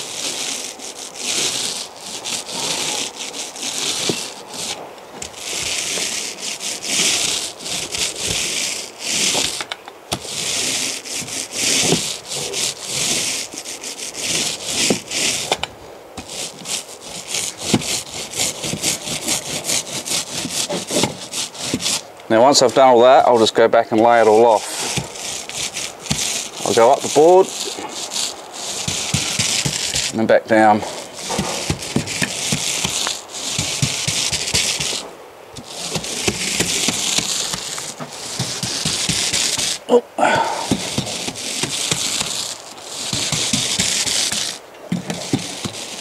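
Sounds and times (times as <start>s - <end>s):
paint roller swishing: 0.0s - 46.0s.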